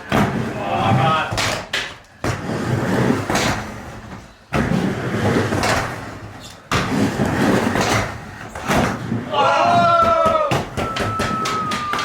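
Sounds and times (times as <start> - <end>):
skateboard wheels rolling: 0.0 - 12.0.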